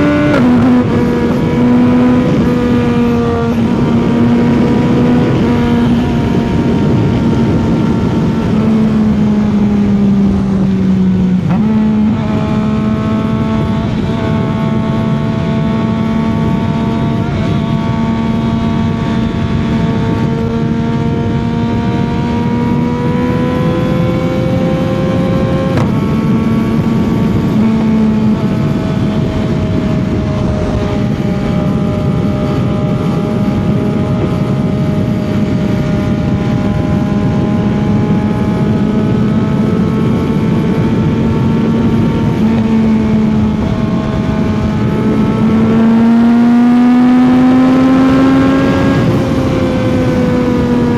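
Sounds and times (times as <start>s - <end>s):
motorcycle engine at speed: 0.0s - 50.9s
wind and road rush: 0.0s - 50.9s.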